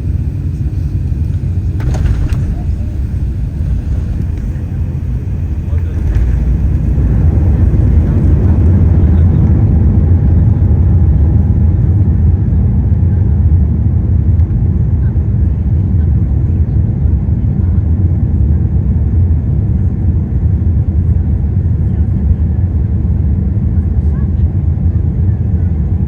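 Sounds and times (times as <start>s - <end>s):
aircraft cabin drone: 0.0s - 26.0s.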